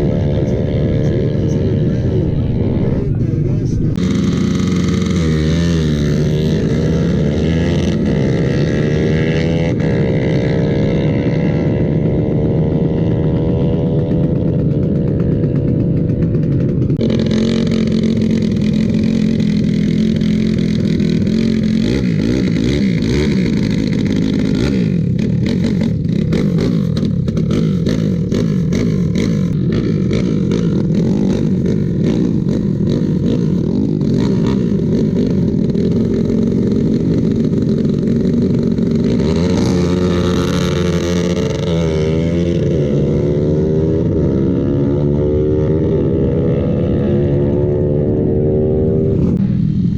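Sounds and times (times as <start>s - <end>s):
motorcycle engines racing: 0.0s - 49.9s.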